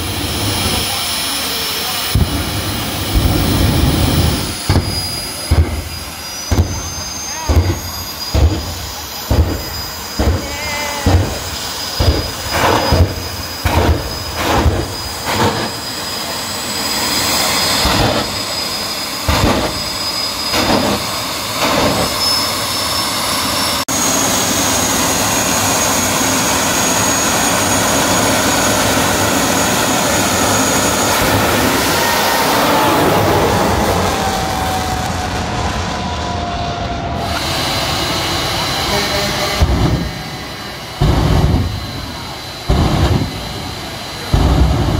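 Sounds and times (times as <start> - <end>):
short loud engine blasts: 0.0 - 23.8, 28.3 - 44.9
jet engine roar with high whine: 0.0 - 44.9.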